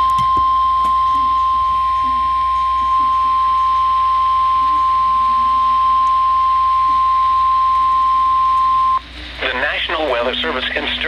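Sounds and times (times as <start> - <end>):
steady pure alarm tone: 0.0 - 11.0.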